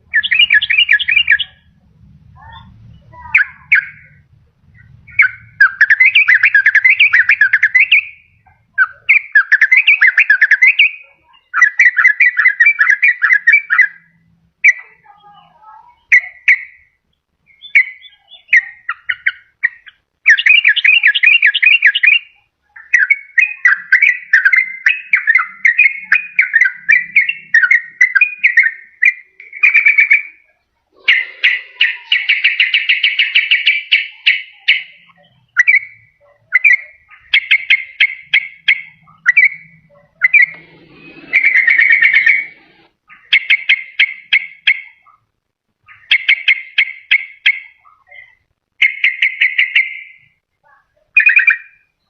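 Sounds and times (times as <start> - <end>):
bird chattering song: 0.0 - 52.0.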